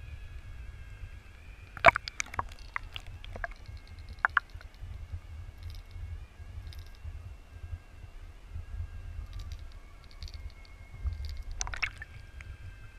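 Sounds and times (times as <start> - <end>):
faint steady whine: 0.0 - 12.9
muffled underwater rumble: 0.0 - 12.9.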